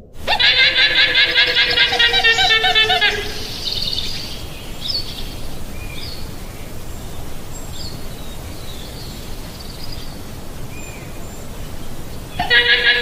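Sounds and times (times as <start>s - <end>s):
outdoor background noise: 0.0s - 13.0s
faint bird chirps: 0.3s - 13.0s.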